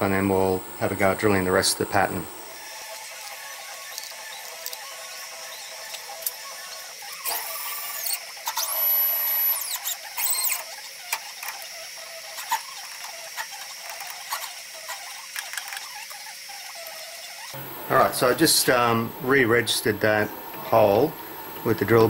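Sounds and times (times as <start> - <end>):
high machine whine: 0.0 - 22.0
steady machine hum: 0.0 - 22.0.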